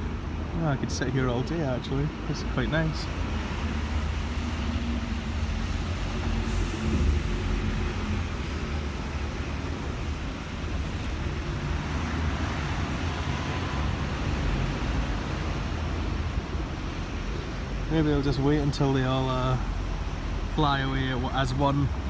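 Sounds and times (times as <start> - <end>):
city road traffic rumble: 0.0 - 22.0
heavy vehicle engines running: 0.0 - 22.0.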